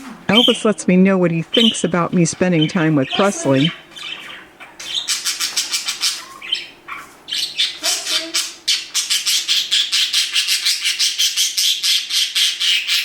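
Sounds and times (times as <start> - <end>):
budgerigar squawking: 1.5 - 13.0.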